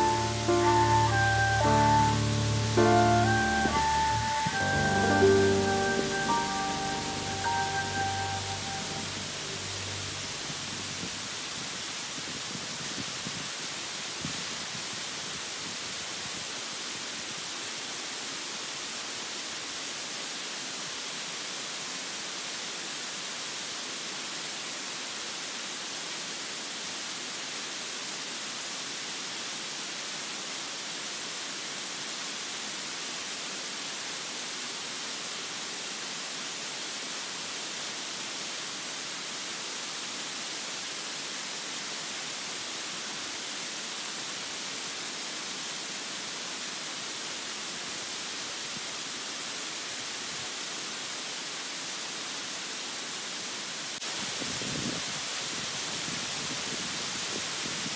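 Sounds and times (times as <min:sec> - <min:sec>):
waterfall hissing: 0:00.0 - 0:57.9.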